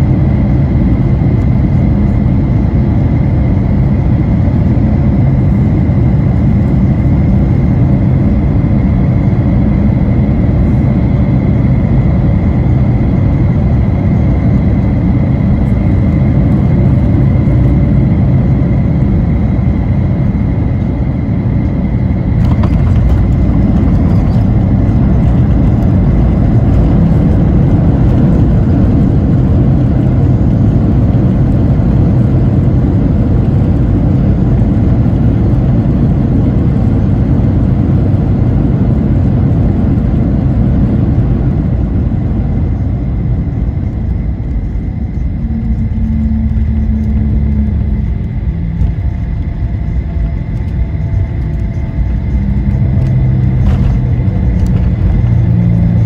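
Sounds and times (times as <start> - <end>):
airplane cabin engine rumble: 0.0 - 56.0
faint high whine: 0.0 - 56.0.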